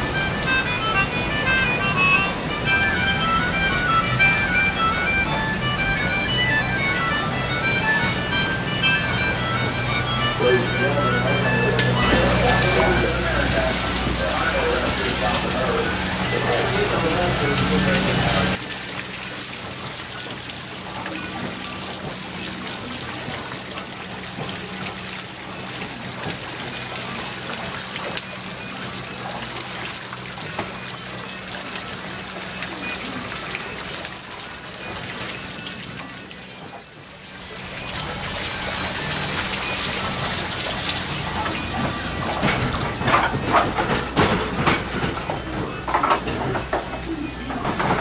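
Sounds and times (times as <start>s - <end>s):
water wheel splashing and dripping: 0.0s - 48.0s.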